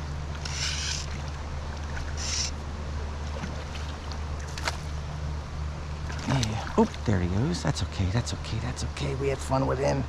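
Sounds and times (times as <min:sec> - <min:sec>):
flowing creek water: 0:00.0 - 0:10.0.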